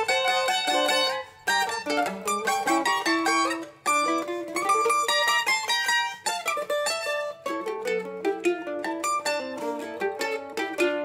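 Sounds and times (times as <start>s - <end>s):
plucked string instruments duet: 0.0s - 11.0s.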